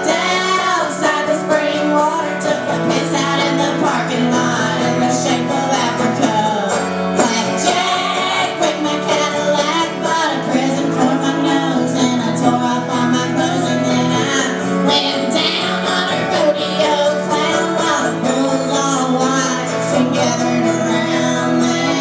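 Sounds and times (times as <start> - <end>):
mandolin: 0.0 - 22.0
strummed acoustic guitar: 0.0 - 22.0
woman singing: 0.0 - 22.0.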